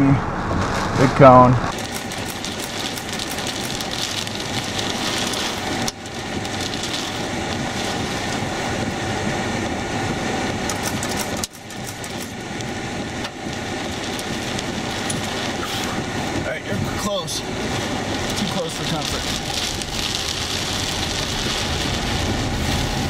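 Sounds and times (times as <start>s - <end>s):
rushing wind noise: 0.0s - 23.0s.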